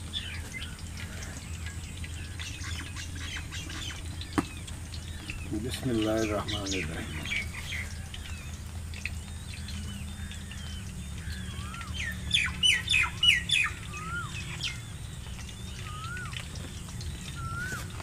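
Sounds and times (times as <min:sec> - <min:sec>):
birds calling and chirping: 0:00.0 - 0:18.0
sharp bird calls: 0:00.0 - 0:18.0.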